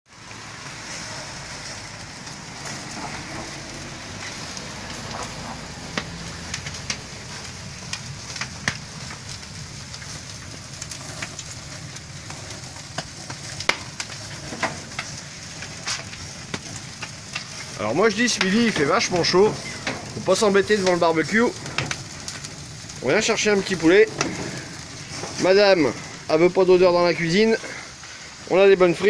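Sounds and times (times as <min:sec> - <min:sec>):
wood fire crackling: 0:00.1 - 0:29.0.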